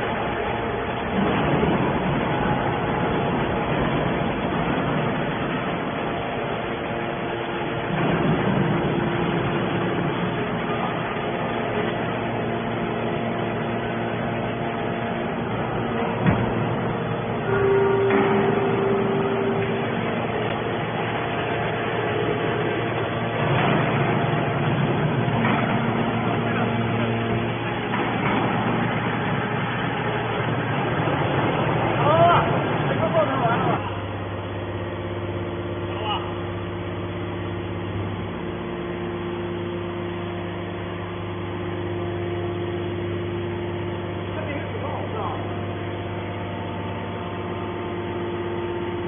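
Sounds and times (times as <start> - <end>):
baler motor and pump humming: 0.0 - 49.0
engine running steadily: 0.0 - 49.0.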